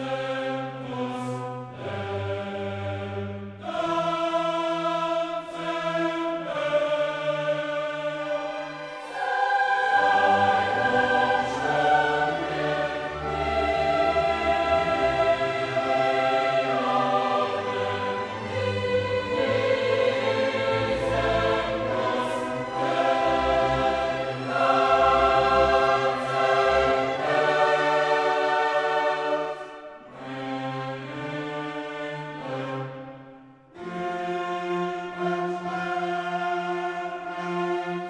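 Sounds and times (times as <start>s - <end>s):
choir singing held chords: 0.0s - 38.0s.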